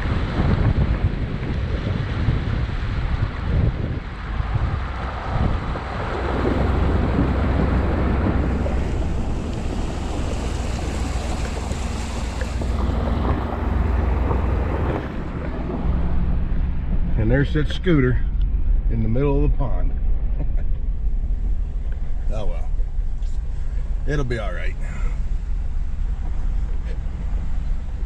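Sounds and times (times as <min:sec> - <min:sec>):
water sloshing against tyres: 0:00.0 - 0:18.8, 0:20.8 - 0:28.0
low engine hum: 0:00.0 - 0:28.0.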